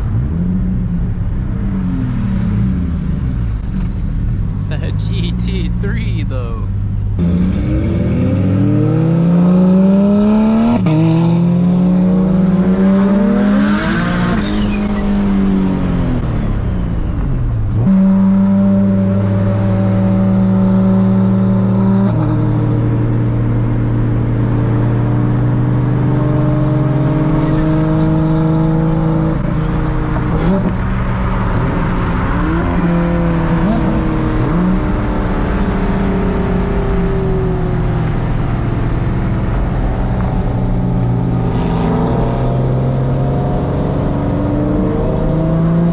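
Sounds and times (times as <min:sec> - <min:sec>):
car engine revving with gear changes: 0:00.0 - 0:45.9.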